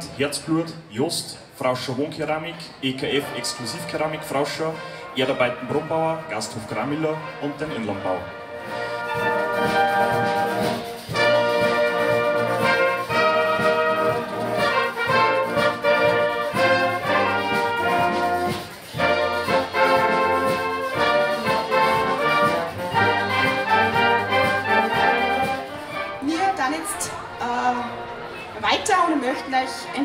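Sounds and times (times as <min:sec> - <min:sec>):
brass band playing: 0:02.6 - 0:30.0.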